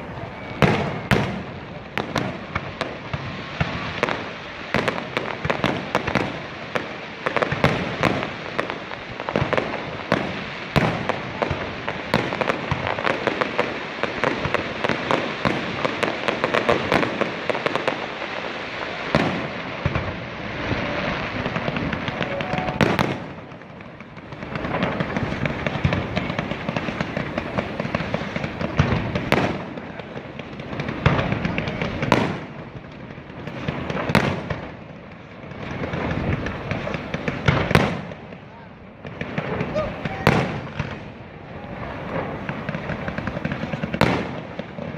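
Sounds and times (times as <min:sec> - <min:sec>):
fireworks bangs and crackling: 0:00.0 - 0:44.9
loud firework booms: 0:00.0 - 0:44.9.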